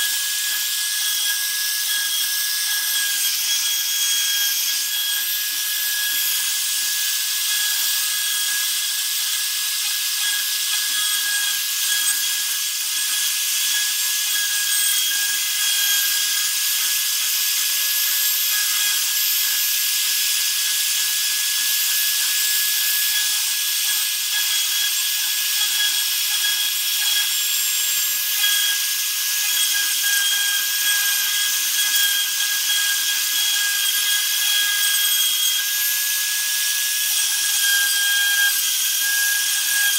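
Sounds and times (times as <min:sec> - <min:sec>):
router motor whining: 0:00.0 - 0:39.9.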